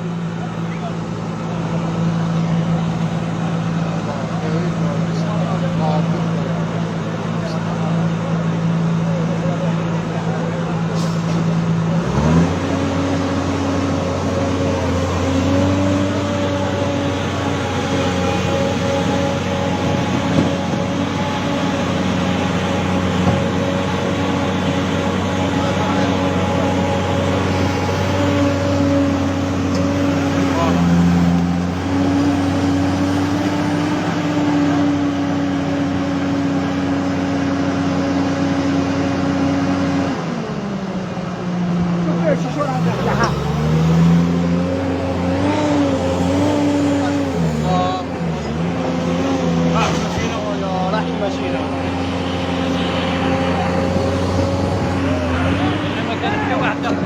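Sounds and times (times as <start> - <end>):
large engine running steadily: 0.0 - 57.0.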